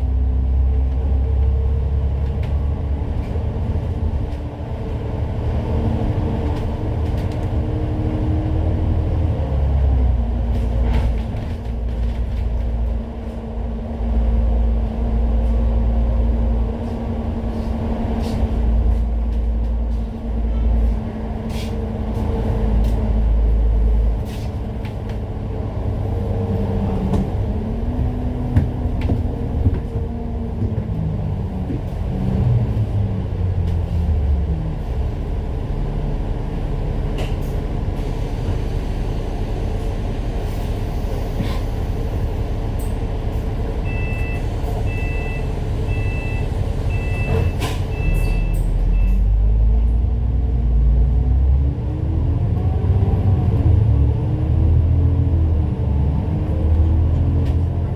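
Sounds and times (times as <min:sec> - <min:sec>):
bus diesel engine: 0:00.0 - 0:57.9.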